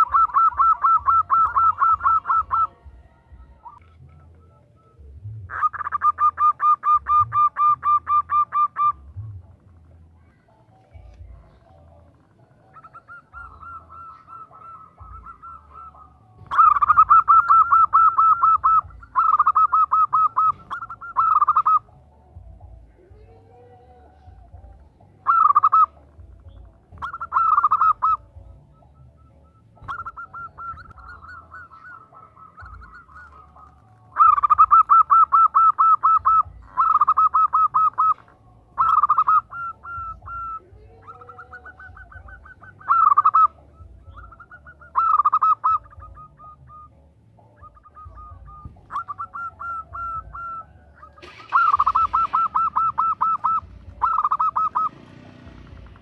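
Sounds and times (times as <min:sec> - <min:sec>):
dove cooing in pulsed notes: 0:00.0 - 0:56.0.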